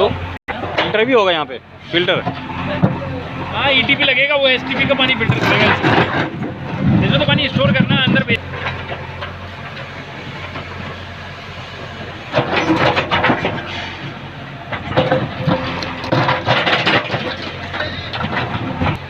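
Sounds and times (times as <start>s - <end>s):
diesel engine running: 0.0s - 19.0s
excavator rattling and clanking: 0.0s - 19.0s.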